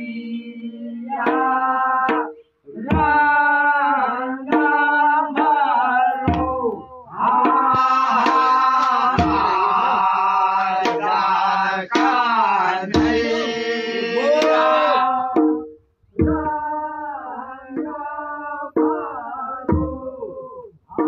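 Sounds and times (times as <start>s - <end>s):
men singing in chorus: 0.0s - 15.6s, 16.2s - 21.0s
dhol drum beats: 1.2s - 17.0s, 17.7s - 21.0s.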